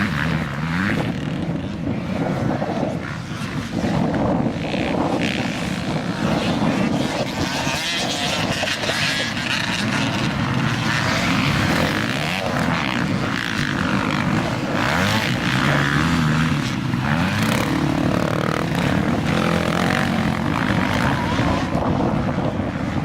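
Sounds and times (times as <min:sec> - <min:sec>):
motocross bikes revving: 0:00.0 - 0:23.0.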